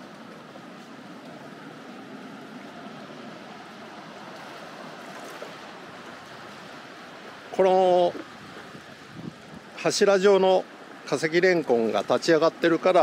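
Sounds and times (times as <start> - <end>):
sea surf washing: 0.0 - 13.0.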